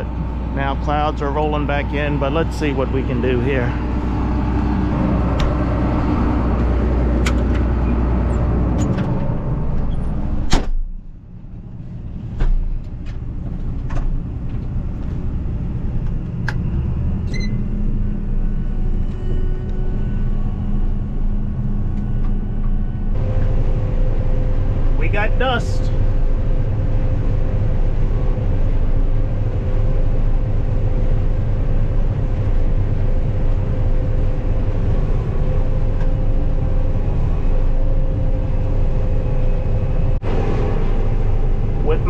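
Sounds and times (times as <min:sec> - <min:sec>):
combine harvester hum: 0:00.0 - 0:42.0.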